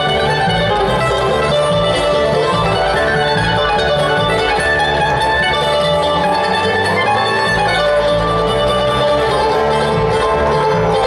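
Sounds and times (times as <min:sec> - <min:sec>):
mandolin picking: 0:00.0 - 0:11.0
upright bass: 0:00.0 - 0:11.0.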